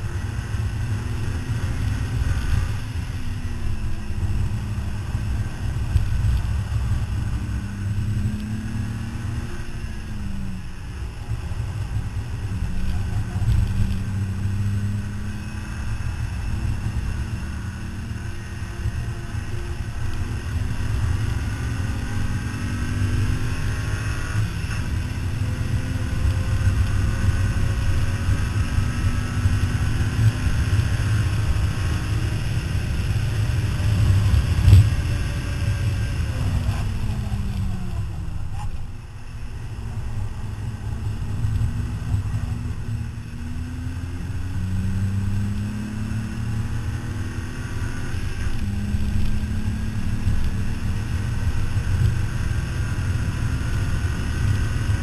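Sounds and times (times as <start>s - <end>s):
car engine accelerating: 0.0s - 55.0s
wind rumble on microphone: 0.0s - 55.0s.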